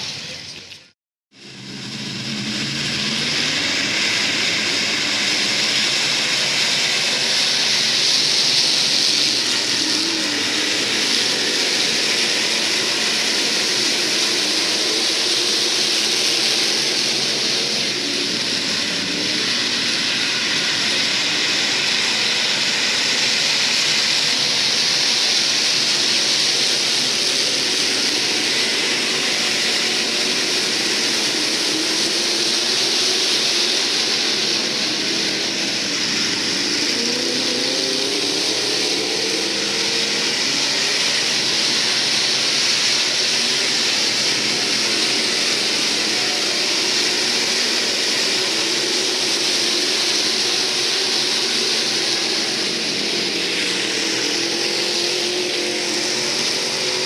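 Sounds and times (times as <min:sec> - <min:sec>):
race car engines roaring: 0:01.4 - 0:57.0.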